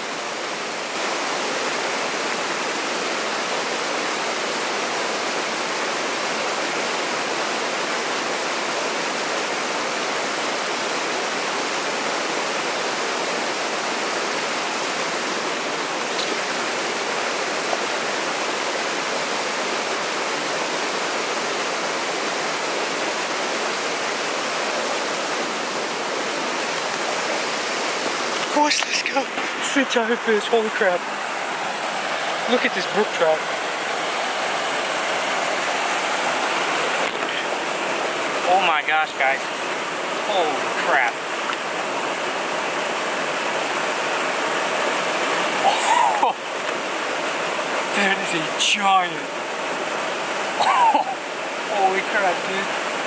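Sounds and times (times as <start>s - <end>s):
small waterfall rushing: 0.0s - 53.0s.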